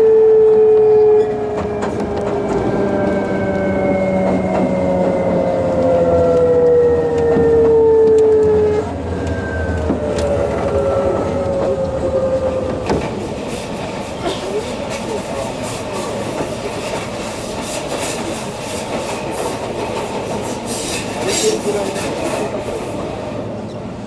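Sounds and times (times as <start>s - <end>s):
train inverter whine: 0.0s - 24.0s
train running noise: 0.0s - 24.0s.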